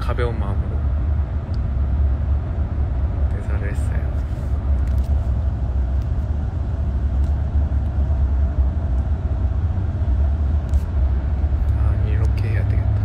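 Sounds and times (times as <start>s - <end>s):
road and engine noise in car: 0.0s - 13.0s.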